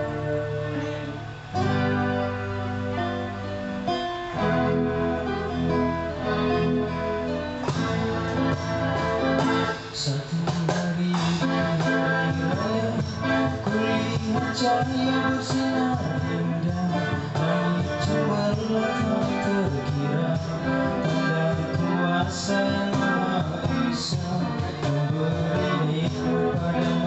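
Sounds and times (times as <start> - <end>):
band playing instrumental: 0.0 - 27.0
strummed acoustic guitar: 0.0 - 27.0.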